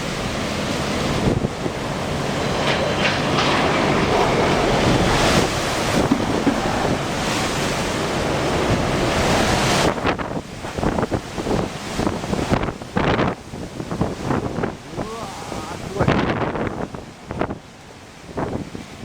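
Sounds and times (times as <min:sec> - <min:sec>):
strong wind gusting: 0:00.0 - 0:19.0
wind buffeting microphone: 0:00.0 - 0:19.0.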